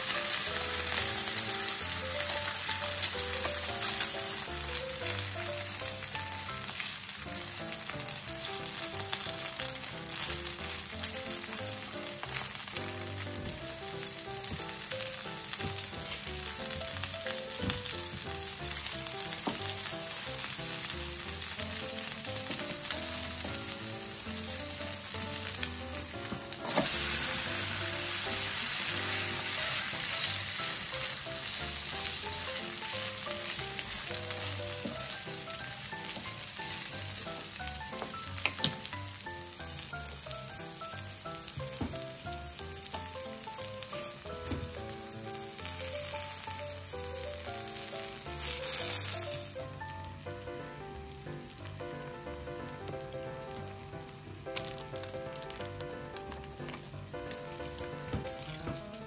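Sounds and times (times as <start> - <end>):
batter sizzling on griddle: 0.0 - 59.0.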